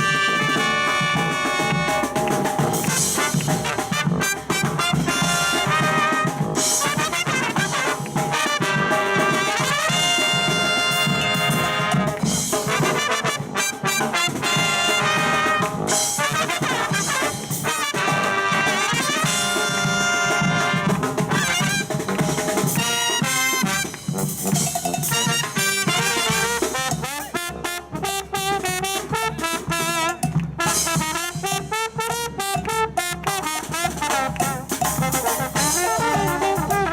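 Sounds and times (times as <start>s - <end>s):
brass band playing: 0.0s - 36.9s.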